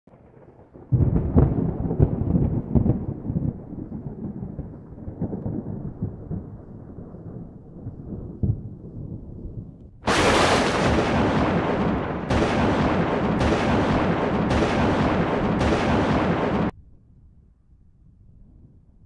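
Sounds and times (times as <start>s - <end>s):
thunder crack: 0.1s - 8.8s, 10.0s - 16.7s
low rumble of thunder: 0.1s - 17.0s.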